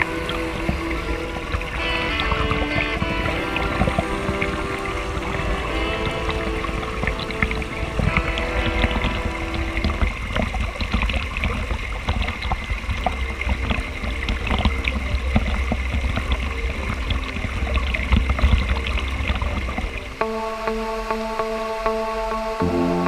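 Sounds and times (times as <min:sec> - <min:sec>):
stream rushing over rocks: 0:00.0 - 0:20.2.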